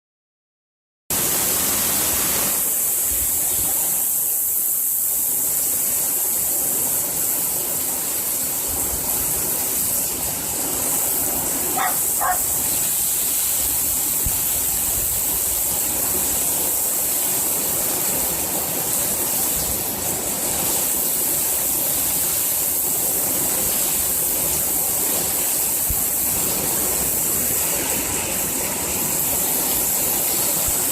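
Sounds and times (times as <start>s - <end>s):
torrential rain pouring: 1.1s - 30.9s.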